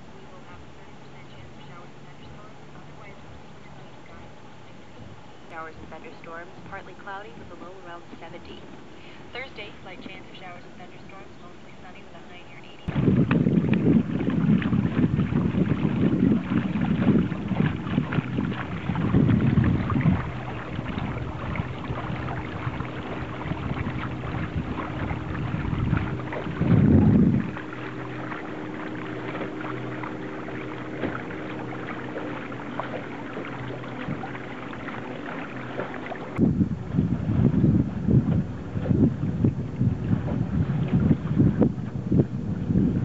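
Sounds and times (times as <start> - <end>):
faint steady hum: 0.0 - 43.0
hiss of wind and water: 0.0 - 43.0
wind buffeting microphone: 0.0 - 43.0.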